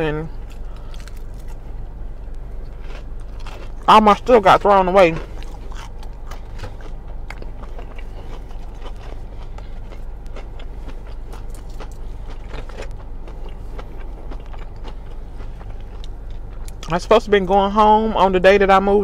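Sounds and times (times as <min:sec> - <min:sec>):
car air conditioning hum: 0:00.0 - 0:19.0
chewing fried fish: 0:00.4 - 0:17.1.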